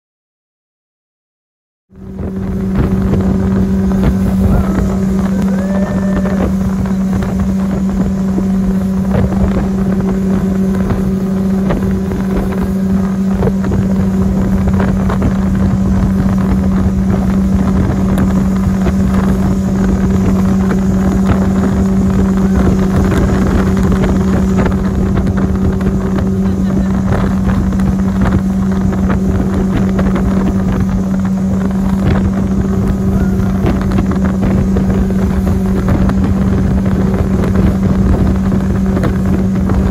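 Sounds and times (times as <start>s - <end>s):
speedboat engine humming: 1.9s - 39.9s
wind buffeting microphone: 1.9s - 39.9s.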